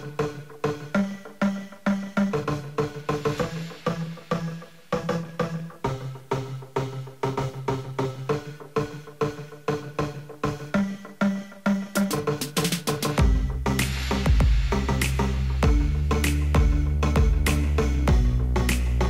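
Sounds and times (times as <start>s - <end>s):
background music with pitched percussion: 0.0s - 19.0s.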